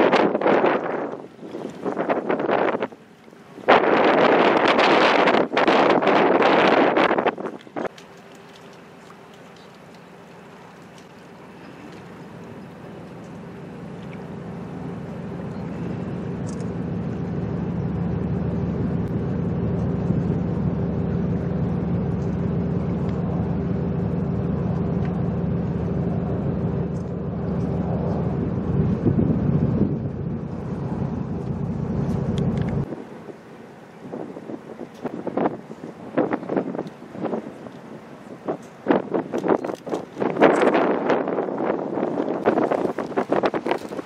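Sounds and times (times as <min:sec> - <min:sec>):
boat engine humming: 0:00.0 - 0:44.0.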